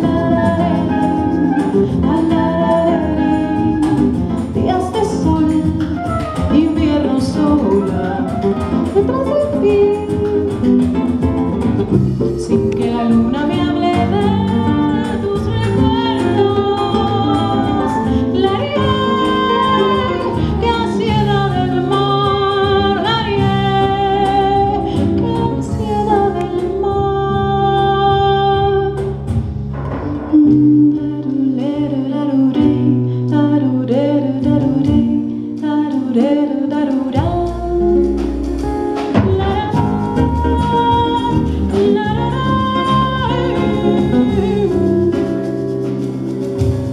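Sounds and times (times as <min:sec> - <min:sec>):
woman singing: 0:00.0 - 0:29.3, 0:30.2 - 0:46.2
electric bass: 0:00.0 - 0:35.8, 0:36.7 - 0:46.9
acoustic guitar: 0:00.0 - 0:46.9
percussion: 0:00.0 - 0:46.9.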